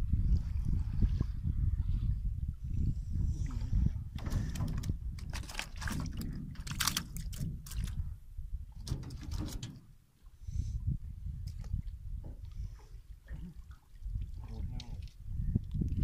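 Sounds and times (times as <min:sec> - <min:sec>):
wind rumble on microphone: 0:00.0 - 0:16.0
water splashing against boat: 0:00.3 - 0:10.4, 0:11.4 - 0:16.0.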